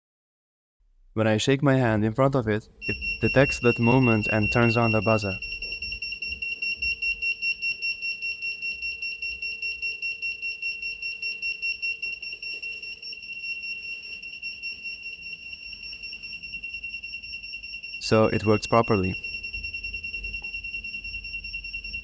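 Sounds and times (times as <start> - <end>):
pulsing alarm buzzer: 1.9 - 22.0.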